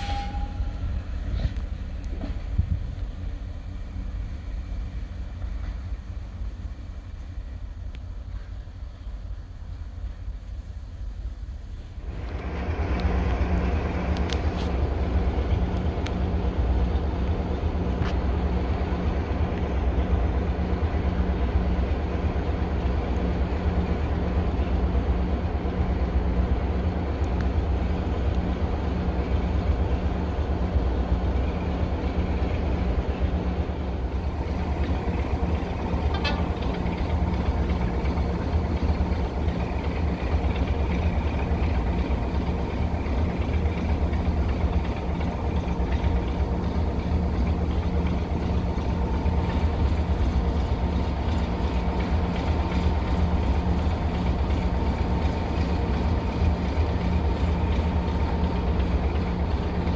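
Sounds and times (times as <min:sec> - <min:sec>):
diesel train engine rumbling: 0:00.0 - 0:59.9.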